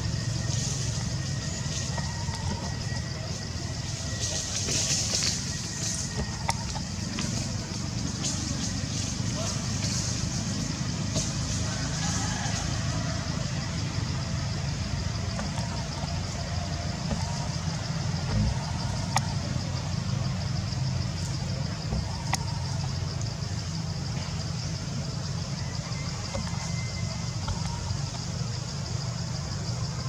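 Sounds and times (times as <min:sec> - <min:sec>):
outdoor background rumble: 0:00.0 - 0:30.0.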